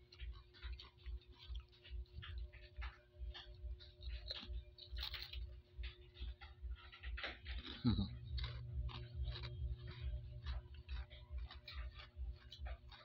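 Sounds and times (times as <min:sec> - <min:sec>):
crunchy snack being chewed: 0:00.0 - 0:13.0.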